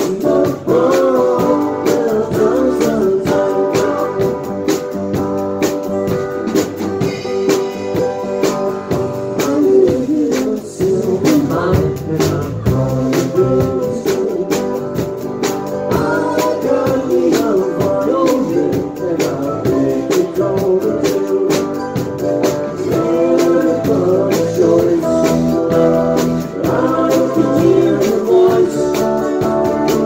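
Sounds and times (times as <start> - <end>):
person singing: 0.0 - 5.0, 7.2 - 30.0
drum kit beat: 0.0 - 30.0
electric guitars: 0.0 - 30.0
live rock band: 0.0 - 30.0.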